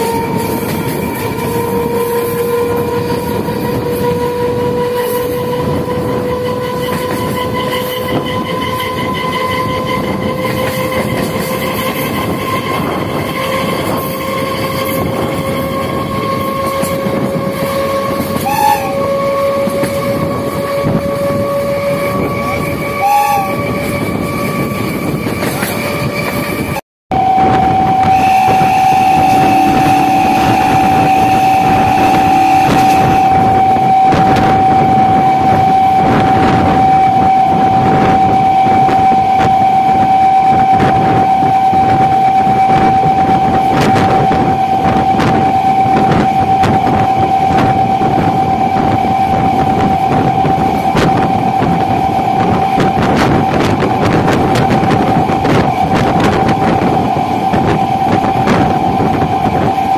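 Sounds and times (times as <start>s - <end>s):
high whine: 0.0s - 59.9s
train rushing and rumbling: 0.0s - 59.9s.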